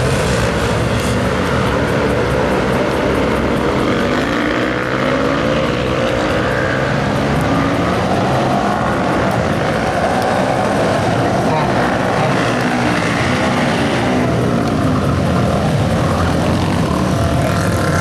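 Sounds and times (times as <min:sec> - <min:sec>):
motorcycle engines: 0:00.0 - 0:18.0.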